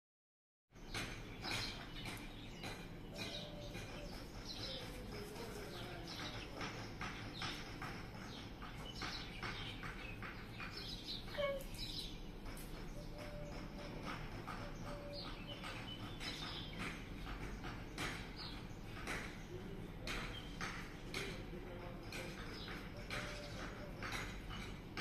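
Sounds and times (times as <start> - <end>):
birds chirping: 0.7 - 25.0
low background hum: 0.8 - 25.0.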